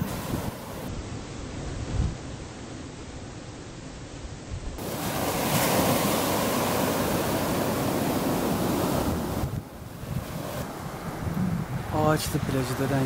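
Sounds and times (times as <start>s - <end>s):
waves breaking on beach: 0.0s - 3.4s, 4.8s - 13.0s.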